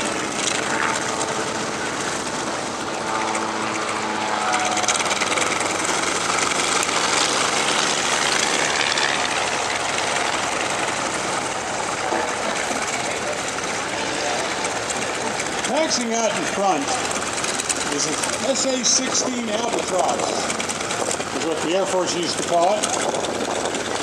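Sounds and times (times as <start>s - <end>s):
radial aircraft engines running: 0.0s - 24.0s.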